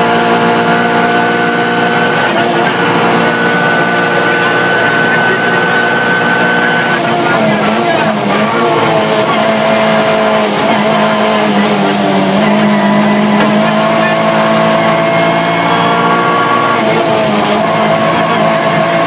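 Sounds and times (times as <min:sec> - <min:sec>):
car engine running under load: 0:00.0 - 0:19.0.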